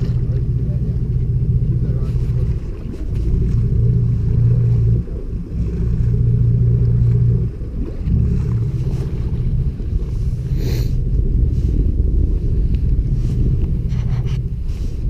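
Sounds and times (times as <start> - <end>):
boat engine rumbling: 0.0 - 15.0
wind on microphone: 0.0 - 15.0.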